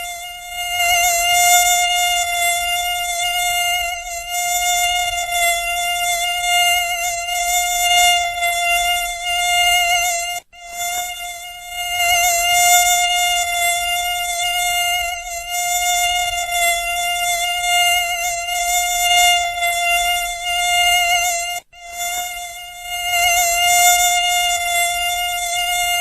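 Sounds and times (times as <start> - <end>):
mosquito wingbeat whine: 0.0 - 26.0.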